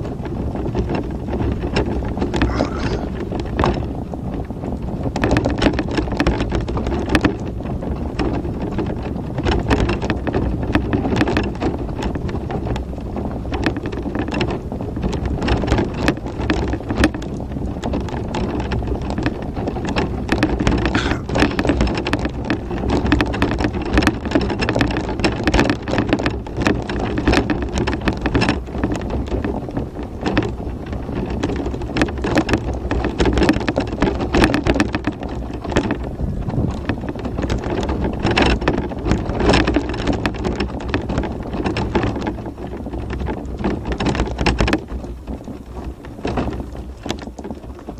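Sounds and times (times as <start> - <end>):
knocks and rattles: 0.0 - 3.9, 5.0 - 47.9
scooter tyres rumbling: 0.0 - 47.9.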